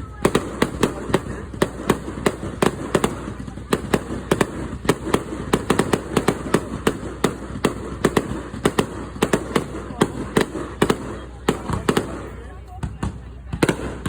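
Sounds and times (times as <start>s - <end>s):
firework bangs: 0.0s - 14.0s
firework crackling: 0.0s - 14.0s.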